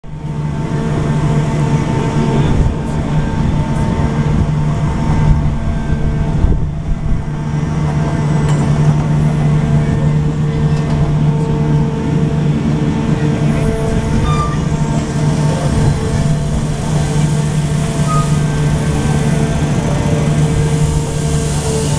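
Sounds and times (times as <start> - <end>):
machinery low drone: 0.0 - 21.9.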